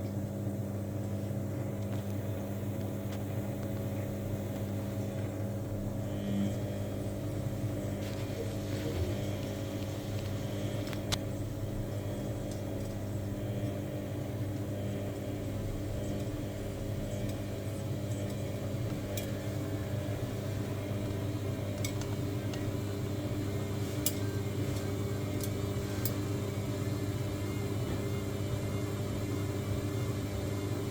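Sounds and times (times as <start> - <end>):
washing machine motor hum: 0.0 - 30.9.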